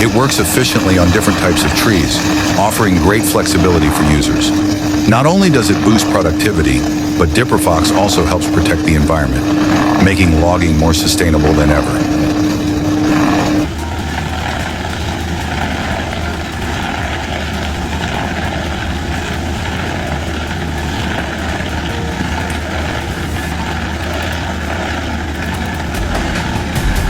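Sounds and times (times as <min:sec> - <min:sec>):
heavy machine engine running: 0:00.0 - 0:27.0.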